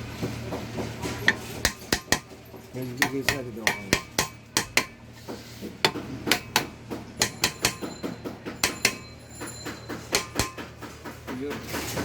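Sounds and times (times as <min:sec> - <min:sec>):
steady low hum: 0:00.0 - 0:12.0
hammer tapping on metal: 0:00.5 - 0:11.8.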